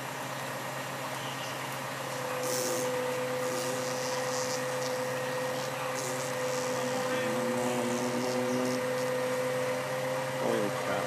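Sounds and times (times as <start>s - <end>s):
crane engine running: 0.0s - 11.0s
steady whine: 0.0s - 11.0s.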